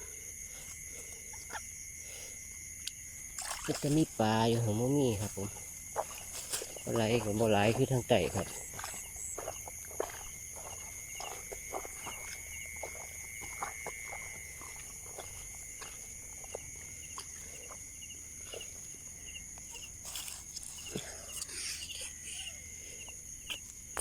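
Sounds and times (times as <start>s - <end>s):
insects droning: 0.0s - 24.0s
rustling in vegetation: 0.0s - 24.0s
short insect chirp: 0.0s - 24.0s.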